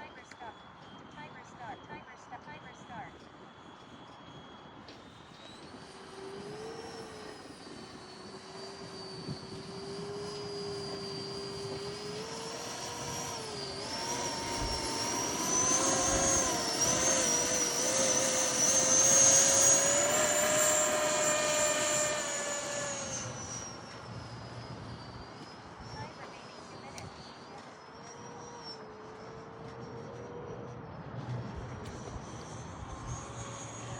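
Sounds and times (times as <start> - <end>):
model jet ducted fan whine: 0.0 - 33.9.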